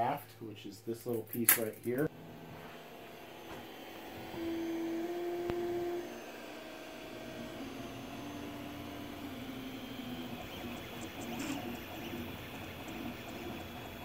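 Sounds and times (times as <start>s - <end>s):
fan hum: 0.0s - 14.0s
stepper motors whining: 2.1s - 14.0s.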